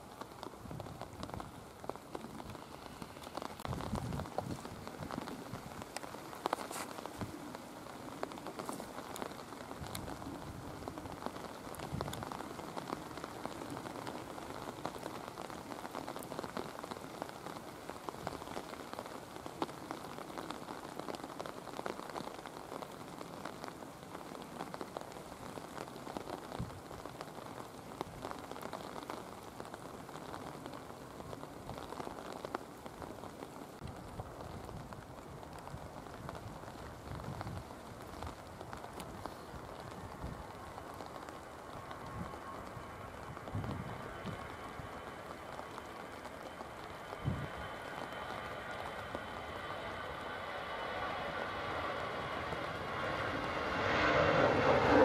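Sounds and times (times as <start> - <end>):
raindrop ticks: 0.0 - 55.0
steady rain hiss: 0.0 - 55.0.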